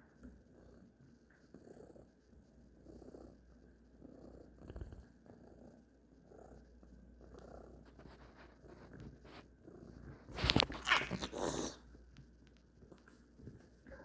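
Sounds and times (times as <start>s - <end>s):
cat purring: 0.2s - 11.9s.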